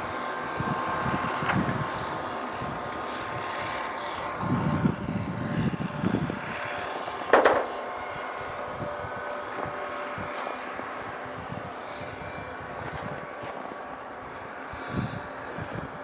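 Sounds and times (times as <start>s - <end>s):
distant train locomotive drone: 0.0s - 16.0s
faint steady tones: 0.0s - 16.0s.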